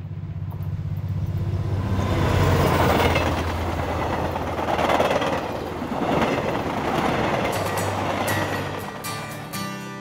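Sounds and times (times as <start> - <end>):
train rumbling by: 0.0 - 10.0.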